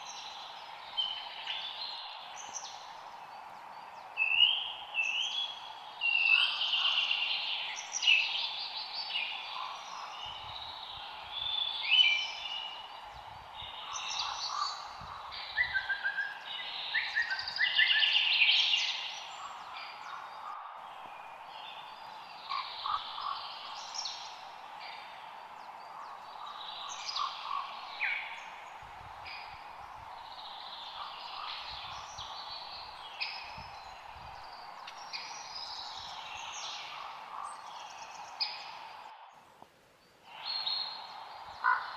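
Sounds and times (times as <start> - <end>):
birds chirping and singing: 0.0 - 39.2
steady background hiss: 0.0 - 41.9.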